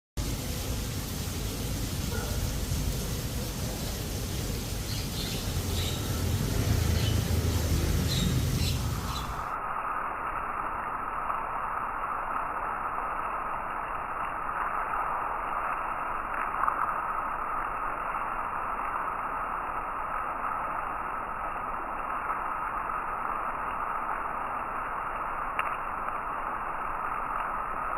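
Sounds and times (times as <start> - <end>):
steady rain: 0.2 - 27.9.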